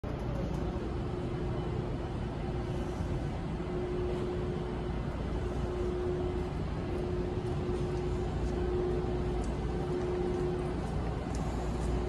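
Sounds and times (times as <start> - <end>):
steady hum: 0.0 - 12.0
train coaches rumbling past: 0.0 - 12.0.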